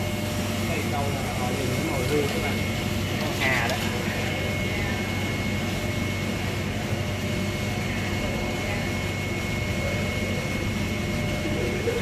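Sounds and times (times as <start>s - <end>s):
mechanical drone with low hum: 0.0s - 12.0s.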